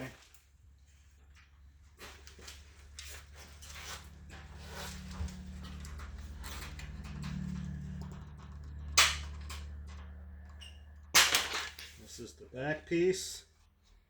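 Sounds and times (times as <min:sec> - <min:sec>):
parts being handled: 0:00.0 - 0:12.4
steady low hum: 0:00.6 - 0:13.8.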